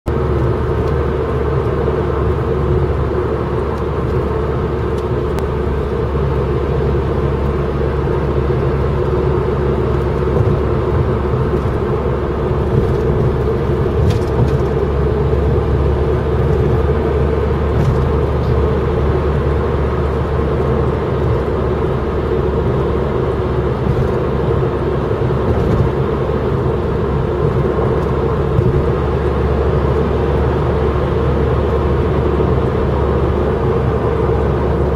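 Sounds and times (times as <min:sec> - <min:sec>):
road noise of vehicles at speed: 0:00.0 - 0:34.9.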